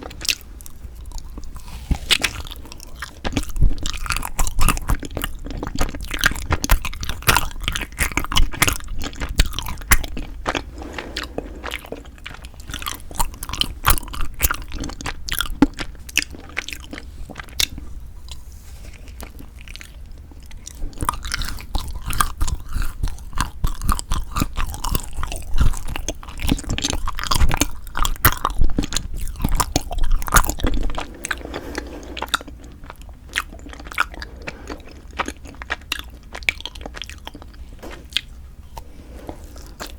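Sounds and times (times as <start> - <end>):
close chewing: 0.0 - 39.9.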